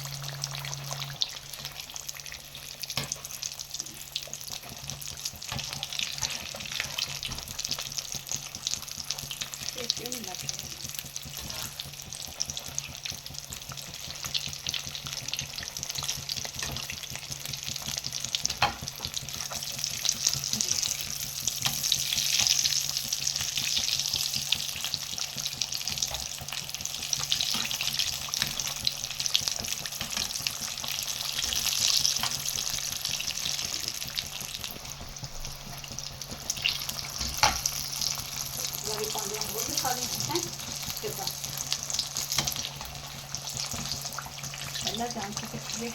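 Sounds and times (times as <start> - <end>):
deep-frying sizzle and crackle: 0.0 - 45.9.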